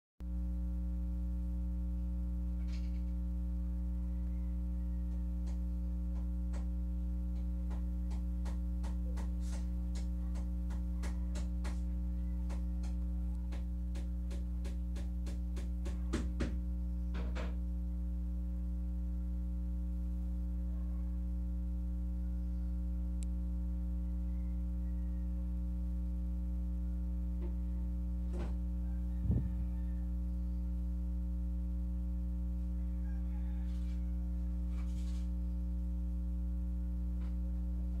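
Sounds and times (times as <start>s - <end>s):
electrical mains hum: 0.2s - 38.0s.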